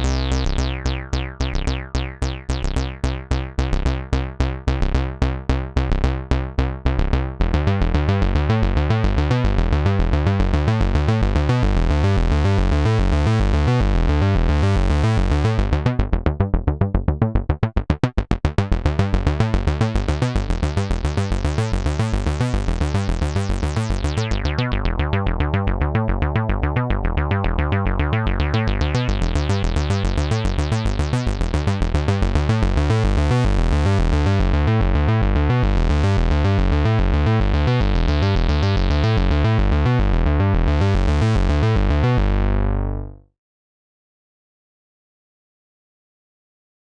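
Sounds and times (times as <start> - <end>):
synthesizer acid bass line: 0.0 - 43.2.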